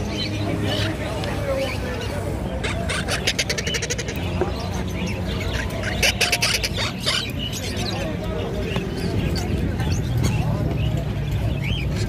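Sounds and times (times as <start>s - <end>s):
parakeets screeching: 0.0s - 12.0s
street noise: 0.0s - 12.0s.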